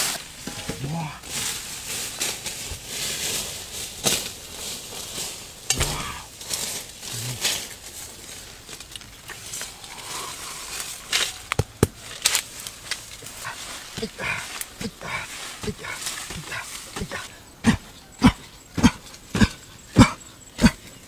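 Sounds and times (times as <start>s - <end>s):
rustling and crunching of leaves and earth: 0.0s - 21.0s.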